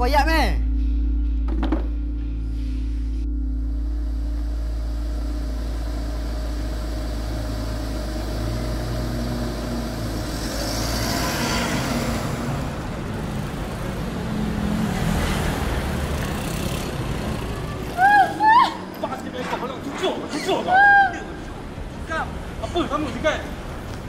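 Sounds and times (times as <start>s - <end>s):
traffic rumble: 0.0s - 24.0s
vehicle passing: 4.0s - 24.0s.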